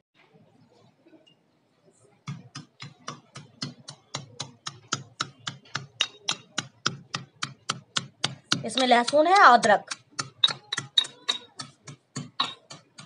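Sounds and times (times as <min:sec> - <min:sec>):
pestle striking metal mortar: 0:02.3 - 0:13.0.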